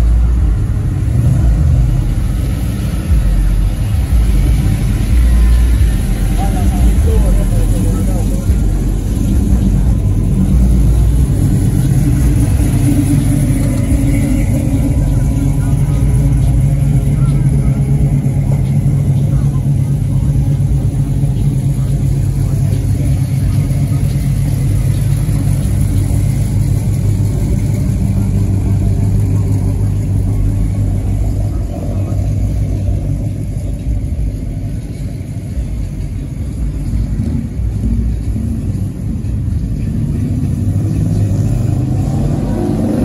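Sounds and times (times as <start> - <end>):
car engine running and revving: 0.0 - 43.0.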